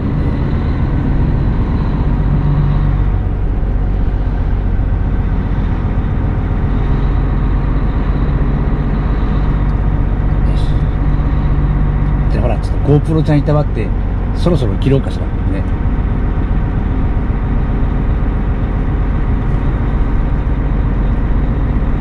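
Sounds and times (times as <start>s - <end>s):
road noise: 0.0s - 22.0s
truck diesel engine running: 0.0s - 22.0s.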